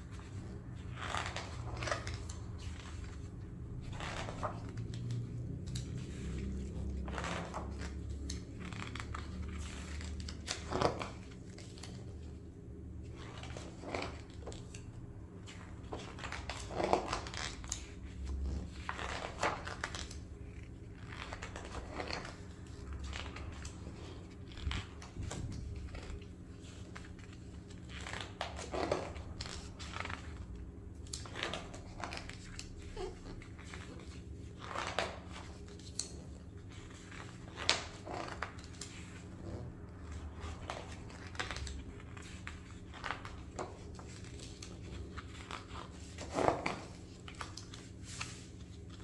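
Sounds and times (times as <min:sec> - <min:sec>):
book pages turning: 0:00.0 - 0:49.0.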